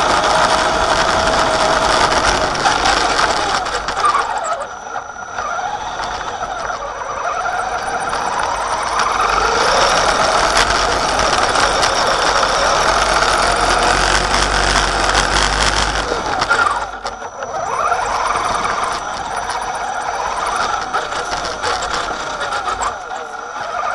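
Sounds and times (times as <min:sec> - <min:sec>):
electric motor whining: 0:00.0 - 0:23.9.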